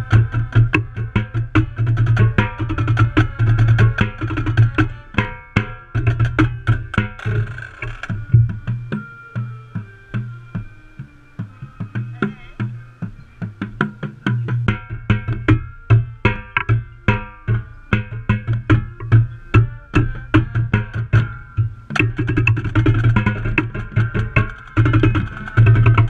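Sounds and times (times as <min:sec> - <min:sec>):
marching band playing: 0:00.0 - 0:06.8, 0:08.2 - 0:26.0
marching tenor drums: 0:00.0 - 0:07.4, 0:08.2 - 0:26.0
bass drum tones: 0:00.0 - 0:26.0.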